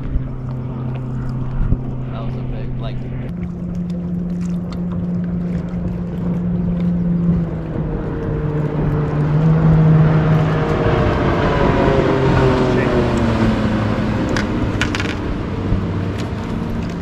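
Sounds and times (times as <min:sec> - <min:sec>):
electric trolling motor hum: 0:00.0 - 0:17.0.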